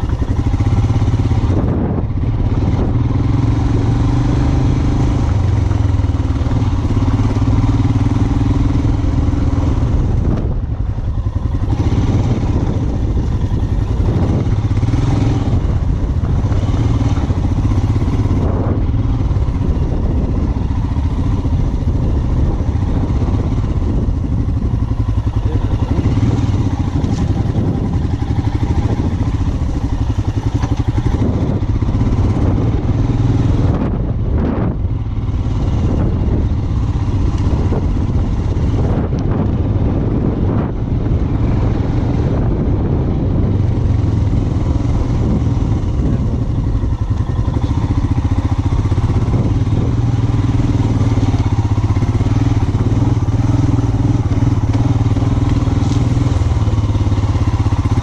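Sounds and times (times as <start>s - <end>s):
motorcycle engine running at low speed: 0.0s - 58.0s.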